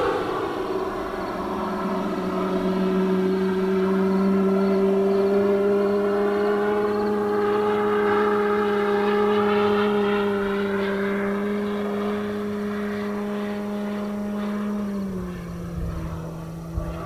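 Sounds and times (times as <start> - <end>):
model plane electric motor and propeller: 0.0 - 17.0
simulated radial engine drone: 0.0 - 17.0.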